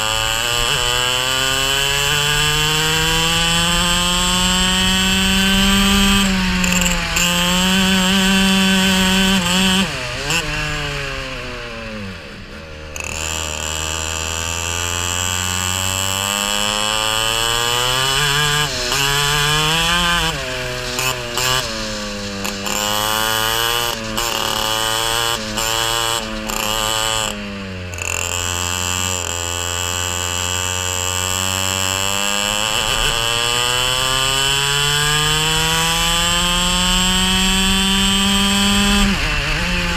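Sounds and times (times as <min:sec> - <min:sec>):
kart engine at full throttle: 0:00.0 - 0:39.9.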